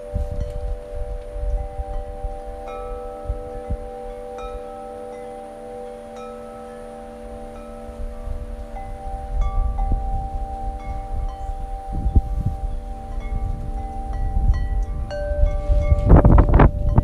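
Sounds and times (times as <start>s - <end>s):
tubular wind chime ringing: 0.0s - 17.0s
wind rumble on microphone: 0.0s - 17.0s.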